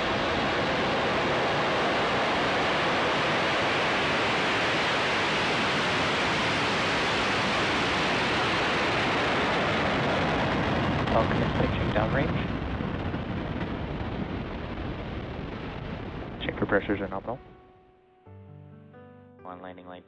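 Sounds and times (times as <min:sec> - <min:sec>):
rocket engines roaring: 0:00.0 - 0:17.4.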